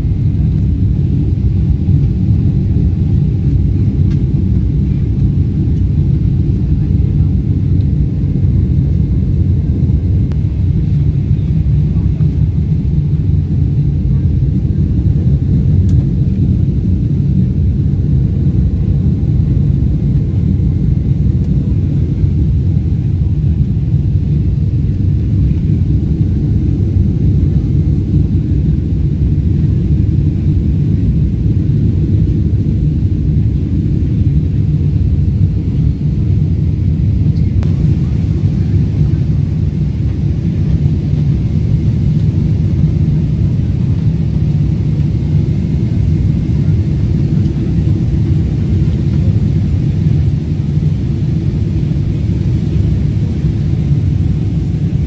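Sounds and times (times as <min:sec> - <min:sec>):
airplane engines and airflow rumble: 0:00.0 - 0:55.0.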